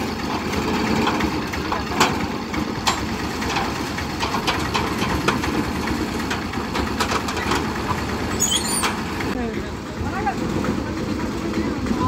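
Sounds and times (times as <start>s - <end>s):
autorickshaw engine idling: 0.0s - 12.0s.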